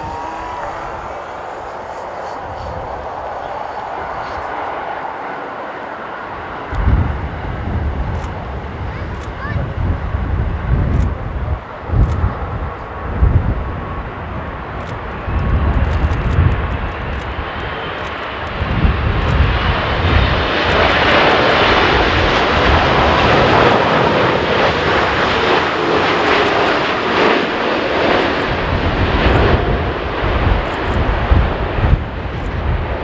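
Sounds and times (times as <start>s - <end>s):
airliner jet engines roaring: 0.0s - 33.0s
wind buffeting microphone: 0.0s - 33.0s.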